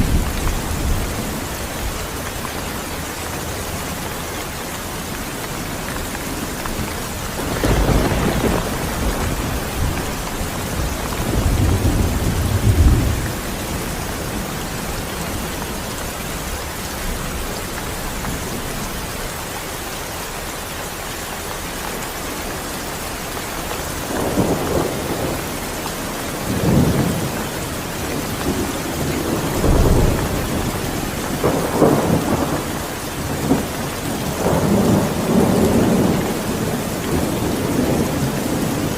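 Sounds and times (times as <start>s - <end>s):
thunder rumbling: 0.0s - 19.3s, 23.7s - 38.9s
steady rain: 0.0s - 38.9s.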